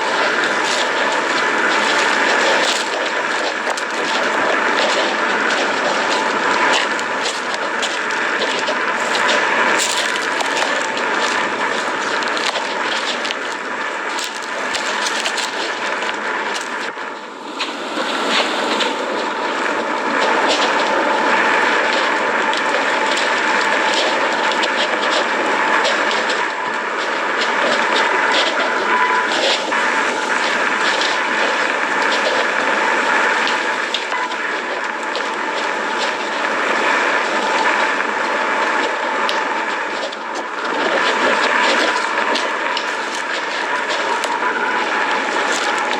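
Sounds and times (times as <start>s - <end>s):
faint crackles: 0.0s - 45.9s.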